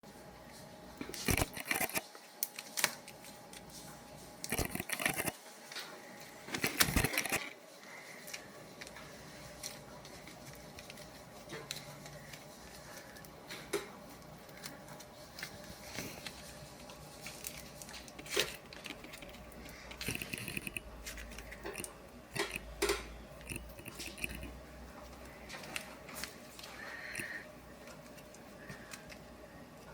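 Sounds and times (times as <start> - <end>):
crackly crunching: 1.1 - 29.9.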